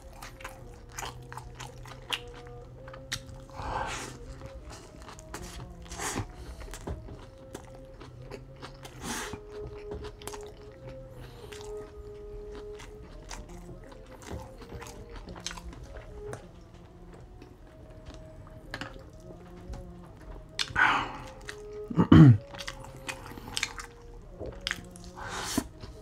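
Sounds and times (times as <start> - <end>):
biting into a burger: 0.0 - 16.5, 20.5 - 26.0
soft background music: 0.0 - 26.0
wet chewing with crunches: 0.0 - 26.0.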